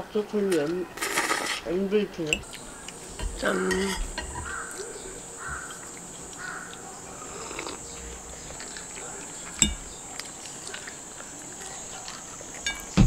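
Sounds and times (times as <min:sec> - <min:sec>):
steady high hiss: 0:00.0 - 0:13.0
bird calling: 0:02.3 - 0:13.0.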